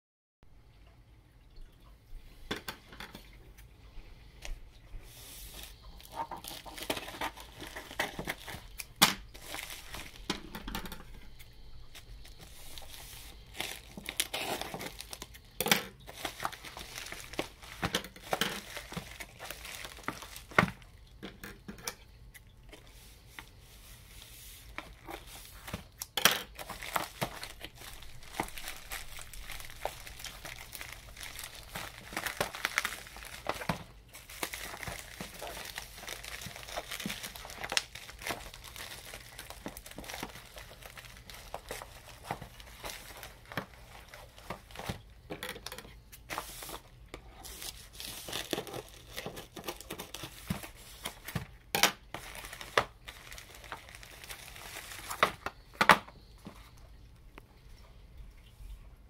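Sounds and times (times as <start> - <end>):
plastic bag crinkling and tearing: 5.2 - 23.6, 24.6 - 56.8
scissors cutting plastic: 6.0 - 22.8, 24.8 - 46.4, 47.1 - 56.0.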